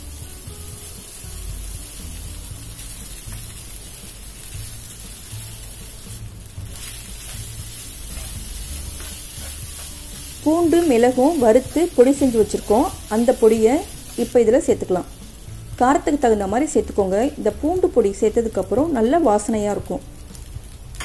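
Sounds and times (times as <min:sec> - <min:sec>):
background music: 0:00.0 - 0:21.0
faint sizzle in a pan: 0:00.0 - 0:21.0.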